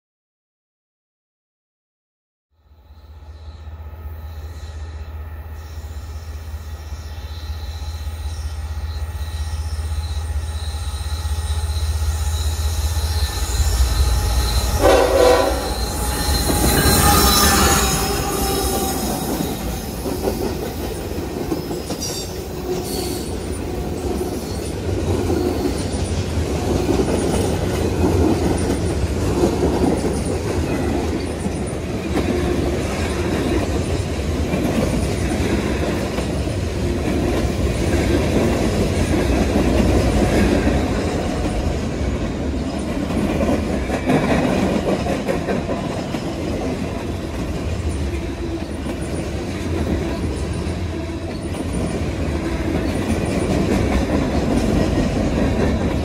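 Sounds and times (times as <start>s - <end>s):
train wheels clickety-clack: 9.2s - 56.0s.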